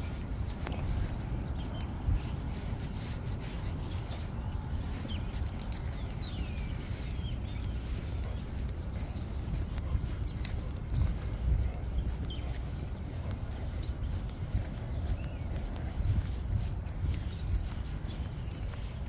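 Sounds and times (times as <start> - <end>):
footsteps on asphalt: 0.0 - 19.0
steady low rumble: 0.0 - 19.0.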